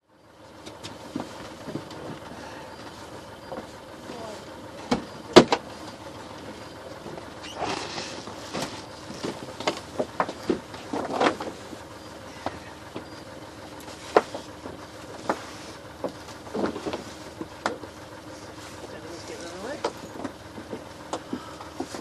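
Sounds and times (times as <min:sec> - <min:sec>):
deck gear knocking and clicking: 0:00.6 - 0:11.8, 0:12.4 - 0:15.4, 0:16.0 - 0:17.9, 0:18.9 - 0:22.0.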